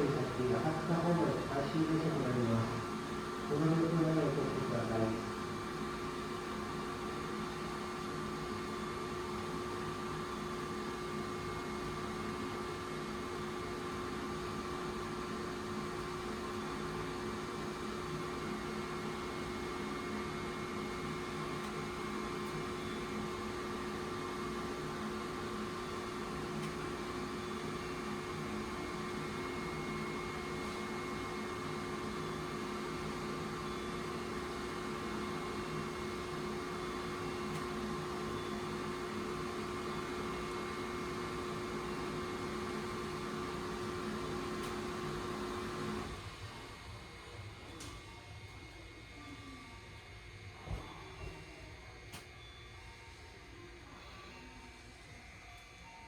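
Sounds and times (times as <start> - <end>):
train electrical equipment humming: 0.0 - 48.8.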